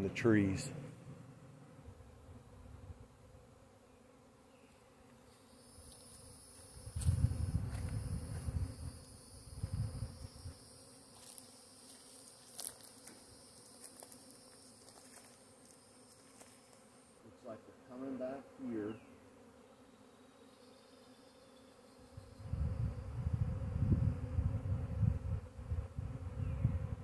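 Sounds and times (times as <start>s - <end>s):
bees buzzing: 0.0s - 27.0s.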